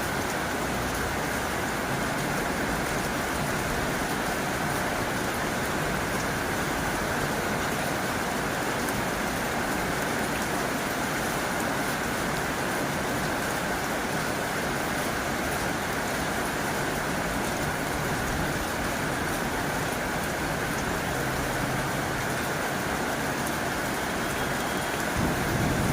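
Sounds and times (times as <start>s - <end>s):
heavy rain on a tin roof: 0.0s - 25.9s.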